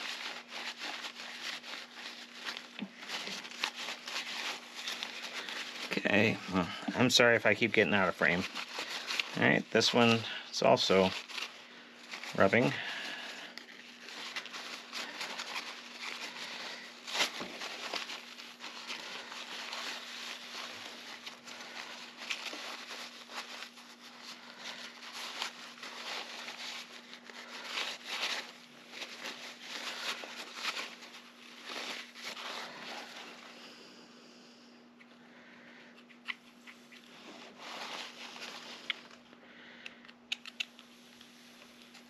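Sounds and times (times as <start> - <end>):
paper towel rustling: 0.0 - 34.0, 36.8 - 39.7.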